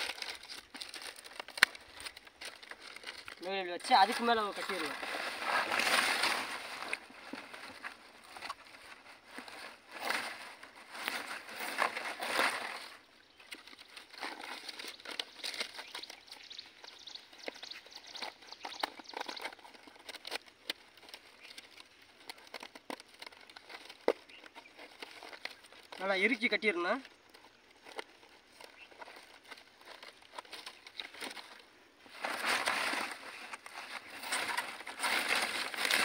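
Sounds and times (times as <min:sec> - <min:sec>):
palm leaves rustling and crackling: 0:00.0 - 0:36.0.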